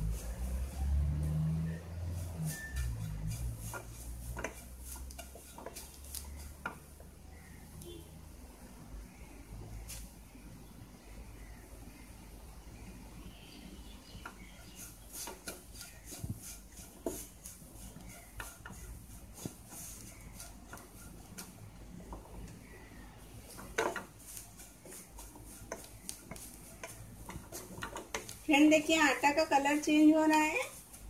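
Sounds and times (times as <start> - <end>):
wooden spatula scraping a pan: 0.0 - 8.0, 14.1 - 31.0.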